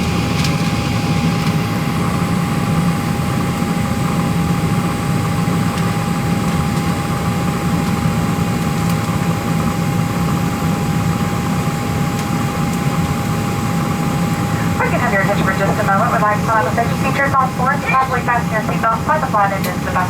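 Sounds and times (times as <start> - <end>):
airplane cabin hum: 0.0 - 20.0.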